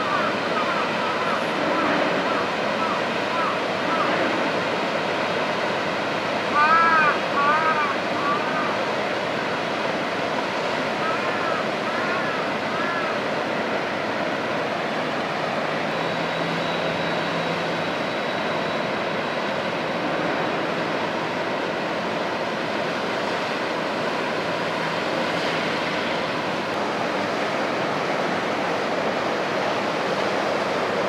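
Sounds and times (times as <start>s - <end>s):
faint low ship hum: 0.0s - 31.0s.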